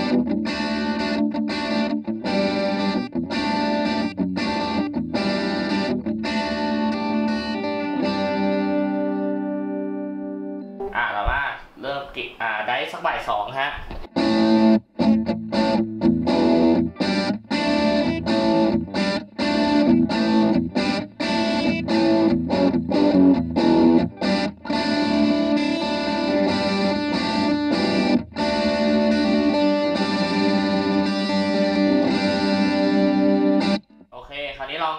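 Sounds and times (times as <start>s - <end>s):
distorted electric guitar chords: 0.0s - 11.8s, 13.8s - 34.1s.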